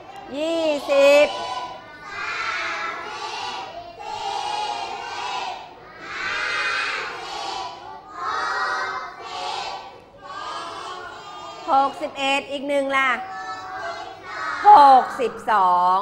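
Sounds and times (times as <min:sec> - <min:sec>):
children chanting in unison: 0:00.8 - 0:12.1, 0:13.2 - 0:15.4.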